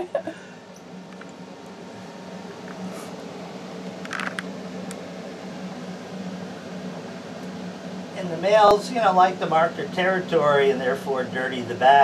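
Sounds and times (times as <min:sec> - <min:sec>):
air conditioning humming: 0:00.0 - 0:12.0.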